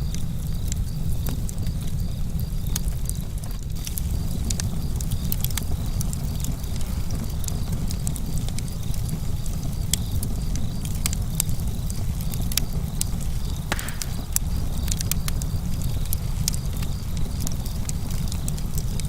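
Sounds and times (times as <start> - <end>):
campfire burning: 0.0 - 19.0.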